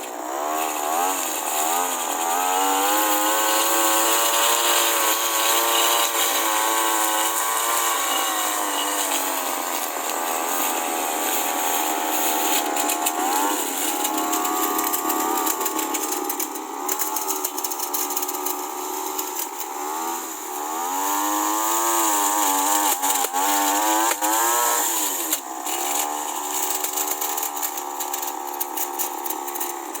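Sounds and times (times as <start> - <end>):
lawn mower engine cutting grass: 0.0 - 30.0.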